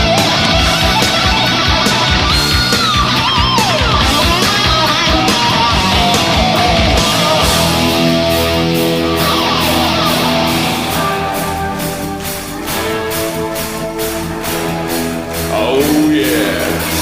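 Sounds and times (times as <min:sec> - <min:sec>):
cymbal beat: 0:00.0 - 0:17.0
heavy metal band playing live: 0:00.0 - 0:17.0.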